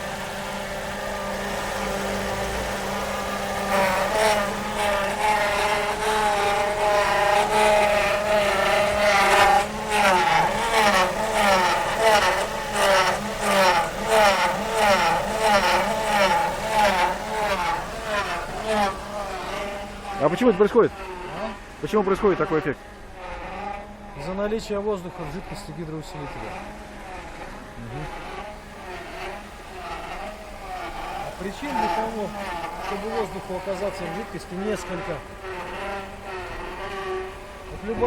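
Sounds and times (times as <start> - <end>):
power steering pump humming: 0.0 - 38.0.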